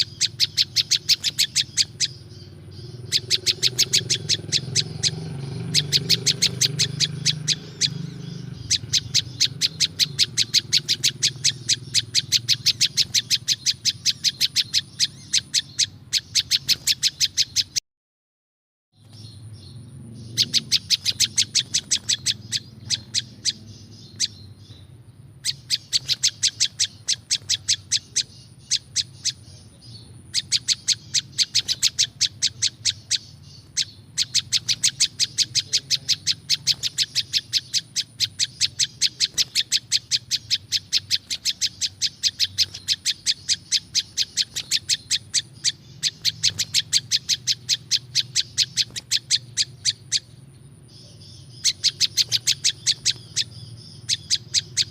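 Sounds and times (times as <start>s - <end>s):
songbird chip notes: 0.0s - 17.8s, 19.0s - 54.9s.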